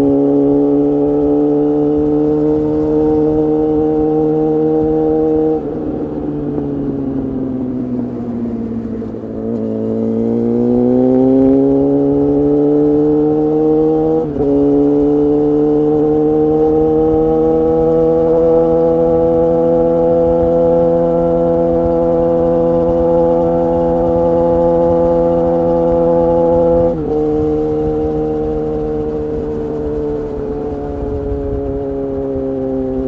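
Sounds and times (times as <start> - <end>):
motorcycle engine under load: 0.0 - 33.0.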